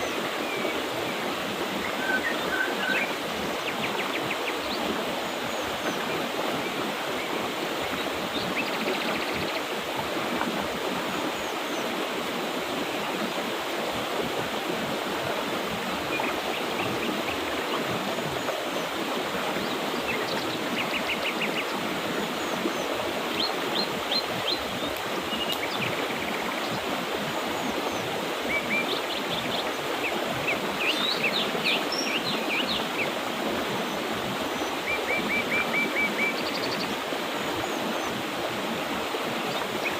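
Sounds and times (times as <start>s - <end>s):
birds chirping: 0.0s - 9.9s, 15.8s - 38.2s
river water running: 0.0s - 39.9s.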